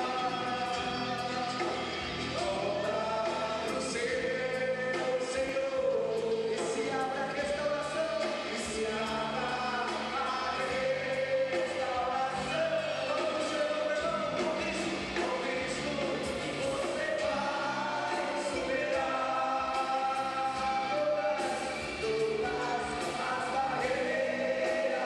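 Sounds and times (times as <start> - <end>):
amplified band playing: 0.0 - 25.0
many voices singing together: 0.0 - 25.0.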